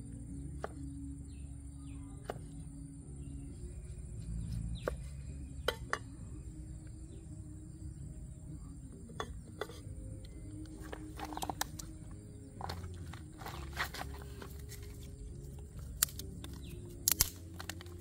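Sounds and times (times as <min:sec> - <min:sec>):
high insect drone: 0:00.0 - 0:18.0
steady low rumble: 0:00.0 - 0:18.0.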